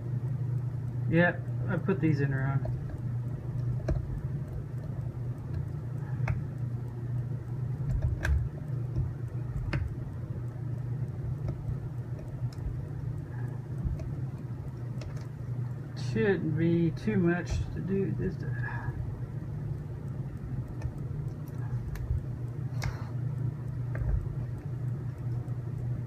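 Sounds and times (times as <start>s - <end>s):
low hum: 0.0s - 26.0s
small parts clicking and tapping: 0.6s - 26.0s.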